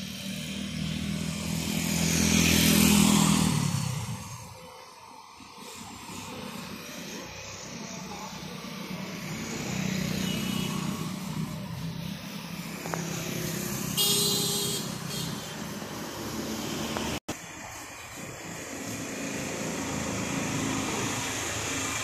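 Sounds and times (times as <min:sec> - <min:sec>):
motorcycles passing: 0:00.0 - 0:22.0
road traffic: 0:00.0 - 0:22.0.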